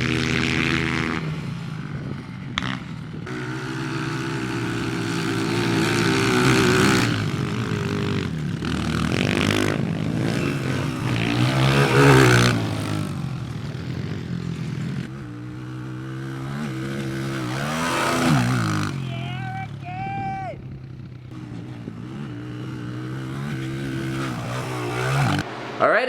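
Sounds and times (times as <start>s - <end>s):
pit bike engine revving: 0.0s - 26.0s.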